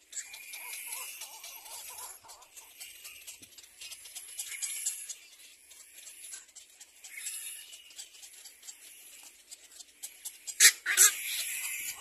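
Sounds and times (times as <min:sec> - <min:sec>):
chicks squeaky begging calls: 0:00.0 - 0:12.0.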